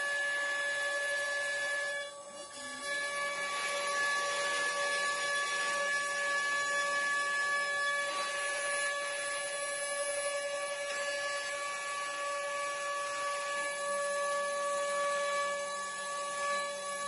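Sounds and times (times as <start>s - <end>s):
router spindle whine: 0.0s - 17.0s.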